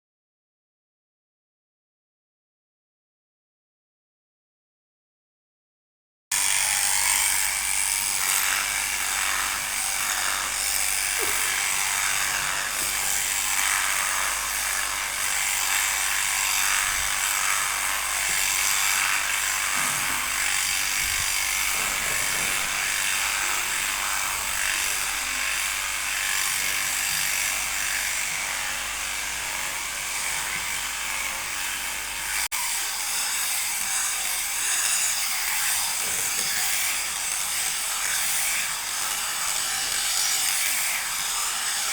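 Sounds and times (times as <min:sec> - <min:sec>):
electric shearing machine buzzing: 0:06.3 - 0:41.9.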